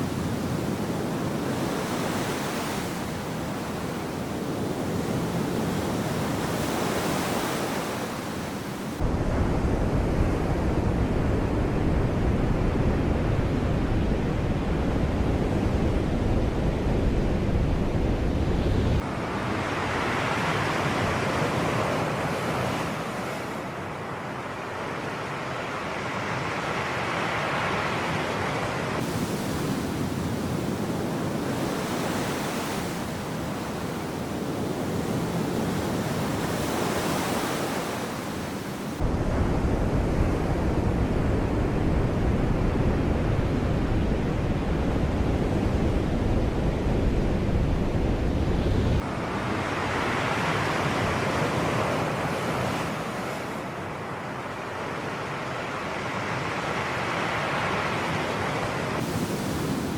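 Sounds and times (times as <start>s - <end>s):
wind rumble on microphone: 0.0s - 23.7s, 27.2s - 53.7s
sea waves washing ashore: 0.0s - 59.9s.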